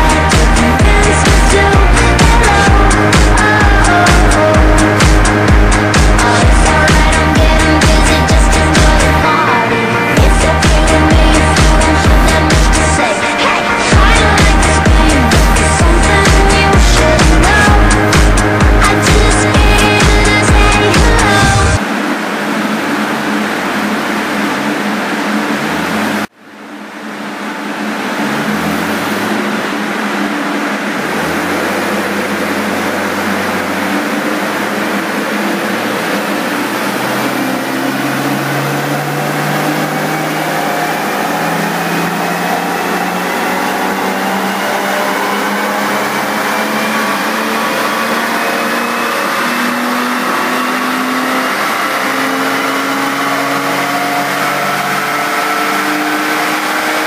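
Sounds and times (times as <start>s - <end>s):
car engine revving on dynamometer: 0.0s - 57.0s.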